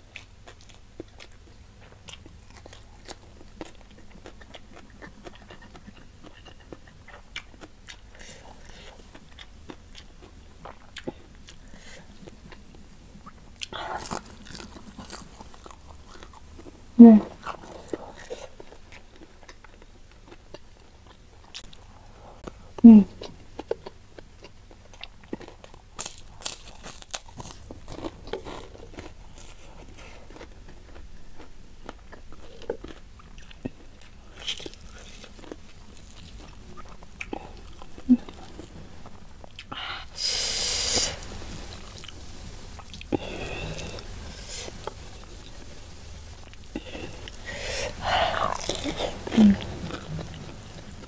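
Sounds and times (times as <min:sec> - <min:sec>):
chewing mouth sounds: 0:00.1 - 0:22.5, 0:23.2 - 0:39.8, 0:46.4 - 0:51.0.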